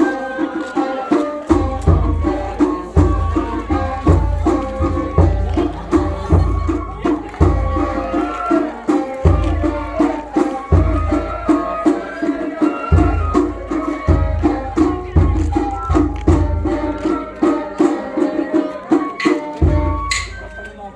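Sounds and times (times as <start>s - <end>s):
deep drum beats: 0.0s - 20.6s
held melody line: 0.0s - 20.9s.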